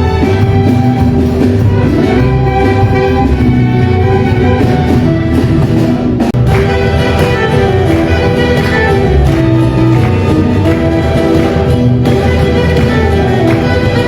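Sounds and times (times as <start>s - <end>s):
string ensemble playing melody: 0.0s - 14.0s.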